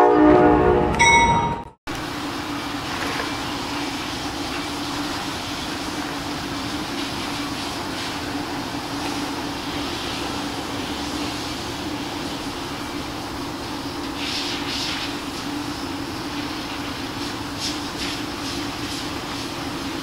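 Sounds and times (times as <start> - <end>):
low engine drone: 1.0 - 20.0
broad rushing noise: 1.9 - 20.0.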